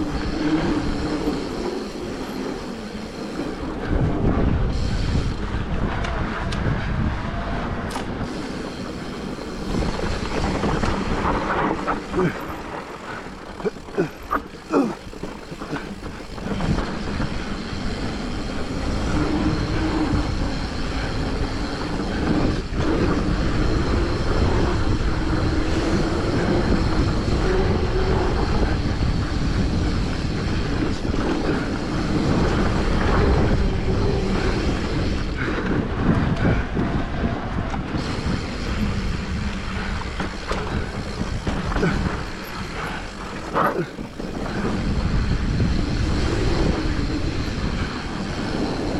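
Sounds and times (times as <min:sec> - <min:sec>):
bike rattles: 0:00.0 - 0:48.9
wind and tyre rumble: 0:00.0 - 0:48.9.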